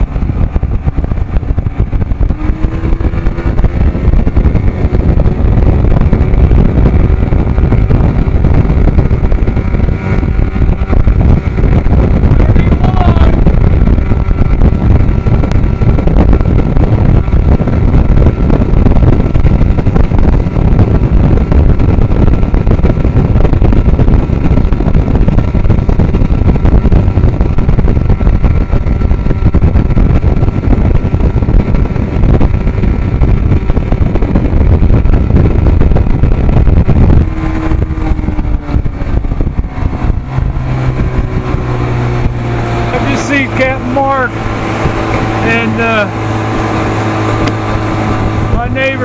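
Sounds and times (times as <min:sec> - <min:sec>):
outboard motor droning: 0:00.0 - 0:49.0.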